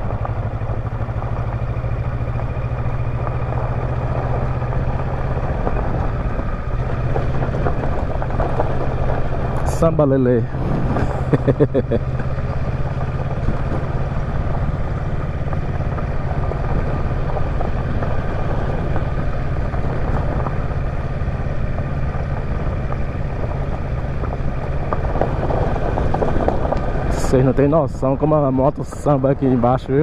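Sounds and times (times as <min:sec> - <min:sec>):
motorcycle engine running: 0:00.0 - 0:30.0
tyres crunching on gravel: 0:00.0 - 0:30.0.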